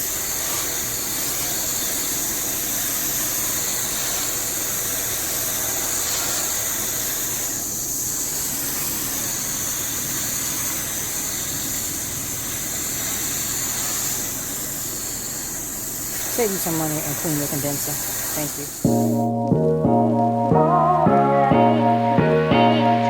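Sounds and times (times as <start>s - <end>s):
hose spraying water: 0.0s - 20.9s.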